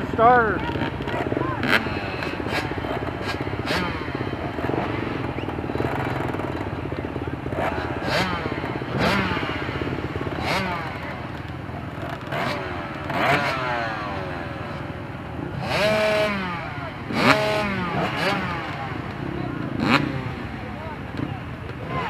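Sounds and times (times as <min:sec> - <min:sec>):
dirt bike engines idling and revving: 0:00.0 - 0:22.0.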